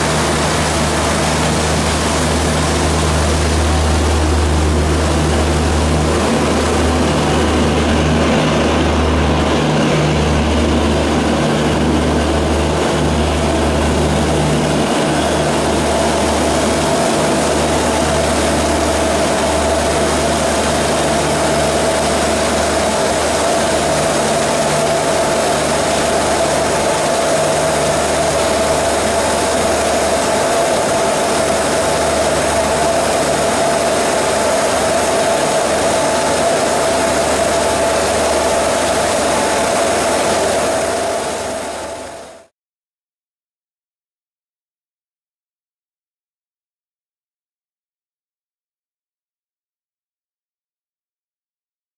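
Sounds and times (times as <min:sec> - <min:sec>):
train rumbling: 0:00.0 - 0:42.3
heavy rain pouring: 0:00.0 - 0:42.5
steady whine: 0:00.0 - 0:42.5.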